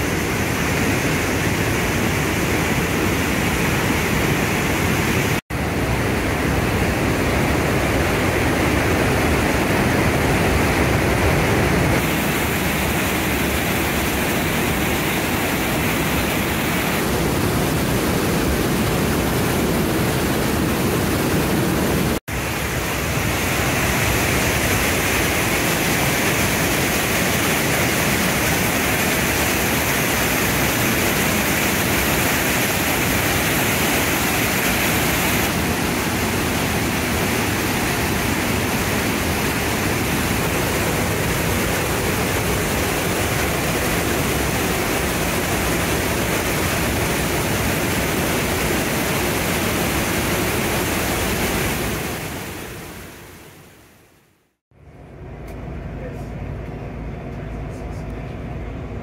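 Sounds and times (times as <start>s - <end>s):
waterfall roaring: 0.0s - 54.5s.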